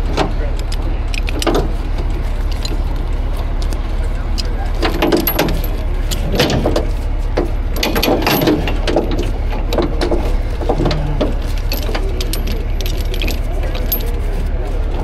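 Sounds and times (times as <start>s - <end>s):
low engine drone: 0.0s - 15.0s
steel chain clinking and rattling: 0.6s - 3.7s, 4.3s - 15.0s.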